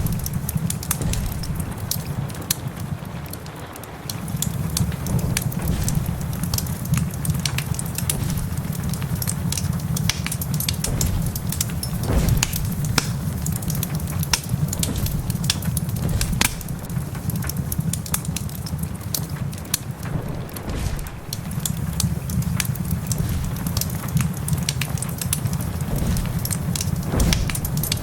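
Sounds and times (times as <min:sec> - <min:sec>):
low rumble: 0:00.0 - 0:03.3, 0:04.3 - 0:18.4, 0:19.9 - 0:28.0
steady rain: 0:00.0 - 0:28.0
wood fire crackling and popping: 0:00.0 - 0:28.0.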